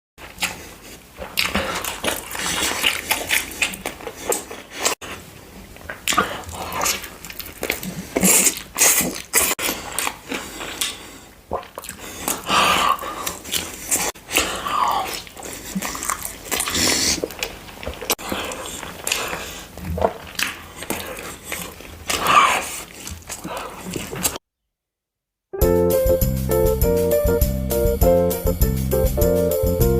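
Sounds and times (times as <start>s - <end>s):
person chewing crunchy food: 0.2s - 24.4s.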